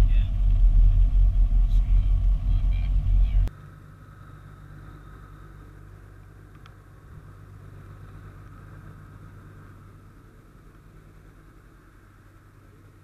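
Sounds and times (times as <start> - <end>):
diesel engine idling: 0.0 - 13.0
faint whine: 0.0 - 13.0.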